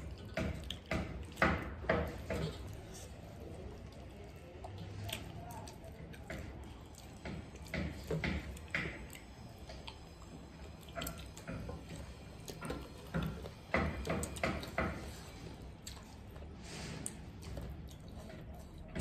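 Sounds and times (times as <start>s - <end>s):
wet chewing and lip smacks: 0.0s - 19.0s.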